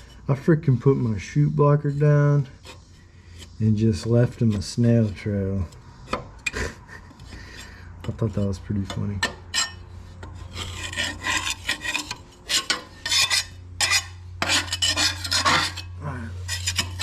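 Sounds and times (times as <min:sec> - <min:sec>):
scraper grating on metal deck: 0:00.0 - 0:17.0.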